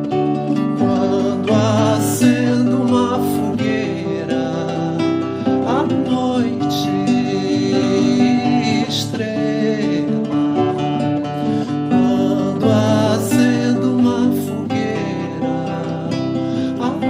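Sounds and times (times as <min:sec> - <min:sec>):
acoustic guitar folk song: 0:00.0 - 0:17.0.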